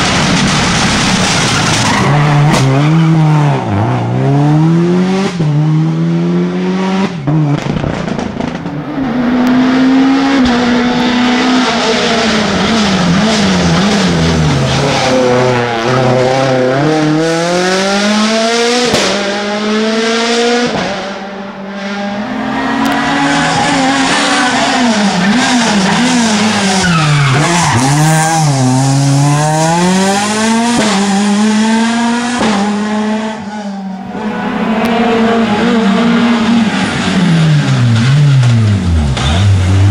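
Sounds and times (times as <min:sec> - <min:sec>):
rally car engine revving: 0:00.0 - 0:39.9.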